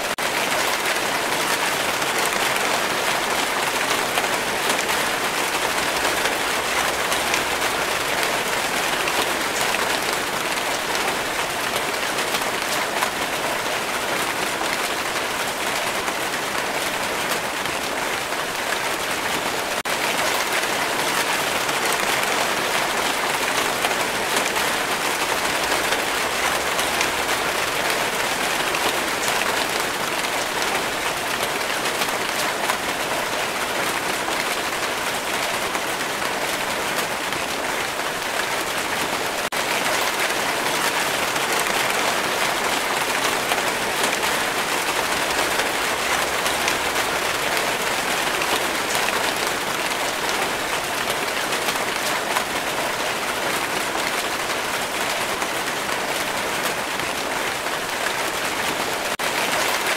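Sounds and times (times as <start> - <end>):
rain pattering on leaves: 0.1 - 59.9.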